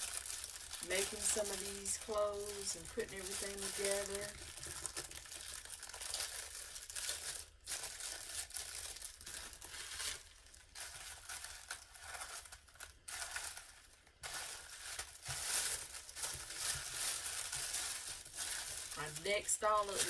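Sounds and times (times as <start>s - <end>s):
packaging crinkling: 0.0s - 20.0s.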